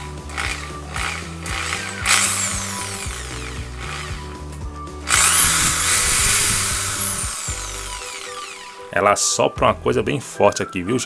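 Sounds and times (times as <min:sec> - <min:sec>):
electric drill motor whine: 0:00.0 - 0:08.9.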